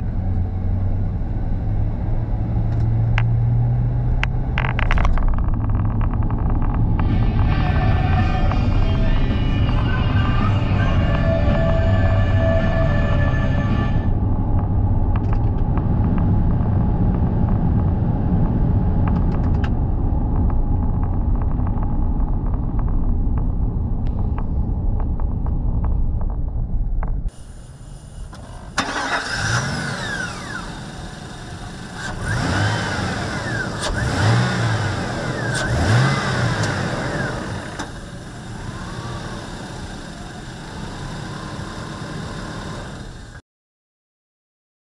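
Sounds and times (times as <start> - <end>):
truck engine revving and idling: 0.0 - 26.4, 27.0 - 43.4
engine and road noise in cab: 0.0 - 43.4.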